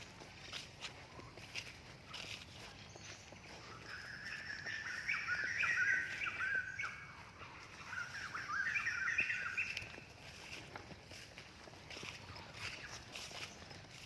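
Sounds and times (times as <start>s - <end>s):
bird chirping: 0.4s - 14.0s.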